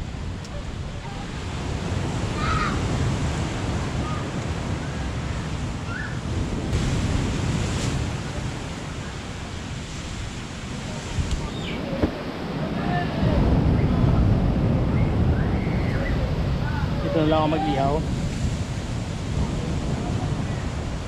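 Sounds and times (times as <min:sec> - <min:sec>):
surf rushing: 0:00.0 - 0:21.0
wind gusting over microphone: 0:00.0 - 0:21.0.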